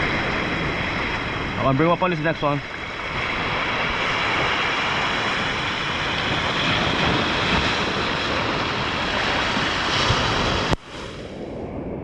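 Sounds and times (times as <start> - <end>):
ocean surf washing ashore: 0.0 - 12.0
wind buffeting microphone: 0.0 - 12.0.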